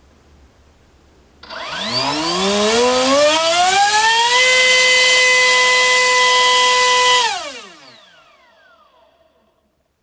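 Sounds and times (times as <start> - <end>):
electric motor whine rising in pitch: 1.4 - 9.5.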